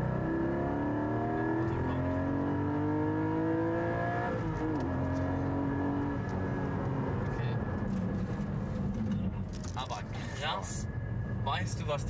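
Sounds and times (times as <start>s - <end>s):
car engine accelerating: 0.0s - 10.3s.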